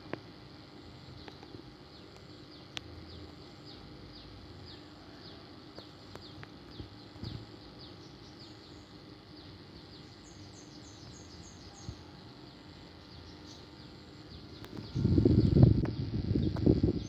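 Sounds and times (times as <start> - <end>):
small birds chirping: 0.6 - 17.0.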